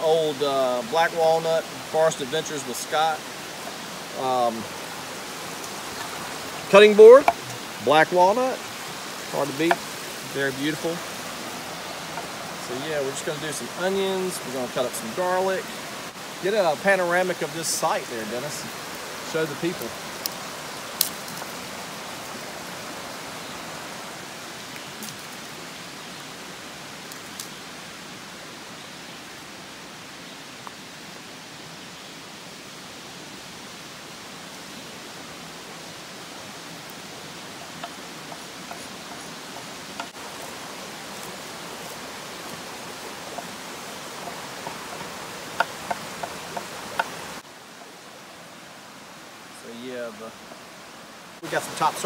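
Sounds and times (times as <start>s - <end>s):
creek running over rocks: 0.0s - 52.0s
stream flowing: 0.0s - 52.0s.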